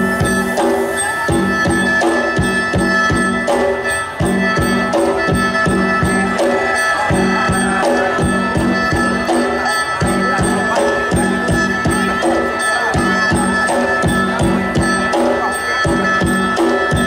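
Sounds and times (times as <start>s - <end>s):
fast drum beat: 0.0s - 17.0s
held high instrument notes: 0.0s - 17.0s.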